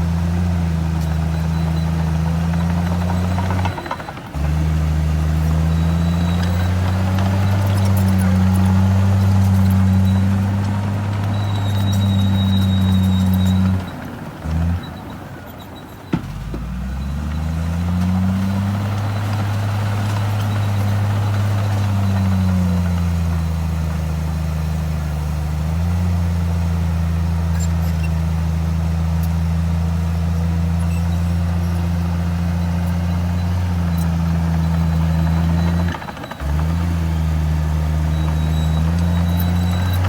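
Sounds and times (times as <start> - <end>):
large diesel engine running: 0.0 - 40.0.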